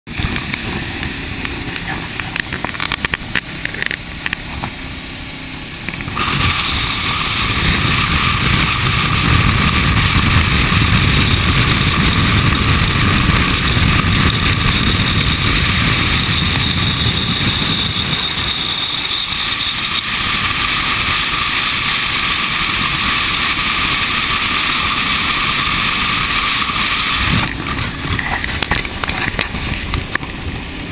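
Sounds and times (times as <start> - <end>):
motorcycle engine and road rumble: 0.0 - 30.9
wind rushing over microphone: 0.1 - 30.9.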